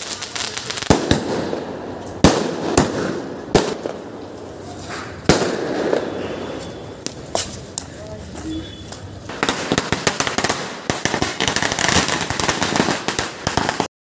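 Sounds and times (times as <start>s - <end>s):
firecracker bangs: 0.0s - 7.5s, 9.3s - 13.9s
crackling hiss: 0.0s - 13.9s.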